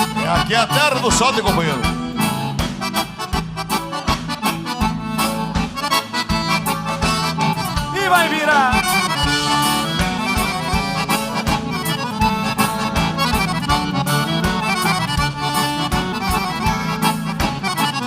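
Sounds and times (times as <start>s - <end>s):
accordion melody: 0.0s - 18.0s
steady drum beat: 0.0s - 18.0s.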